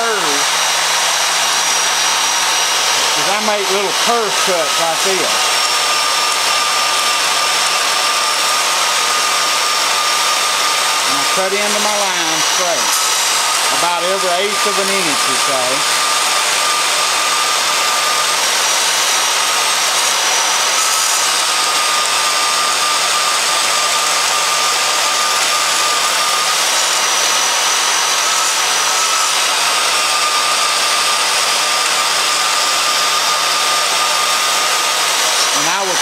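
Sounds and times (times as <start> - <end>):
bandsaw cutting steel: 0.0 - 36.0.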